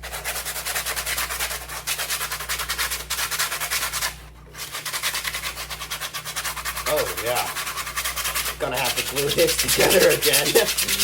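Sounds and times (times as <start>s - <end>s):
sandpaper rubbing on plastic: 0.0s - 11.0s.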